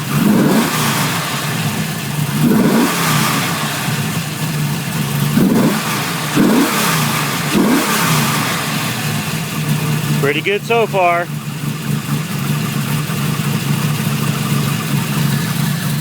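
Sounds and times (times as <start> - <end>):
car engine running: 0.0 - 16.0
engine throttle blips: 0.0 - 16.0.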